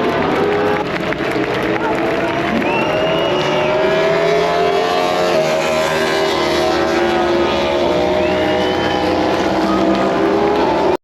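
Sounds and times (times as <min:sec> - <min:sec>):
racing motorcycles at high revs: 0:00.0 - 0:11.0.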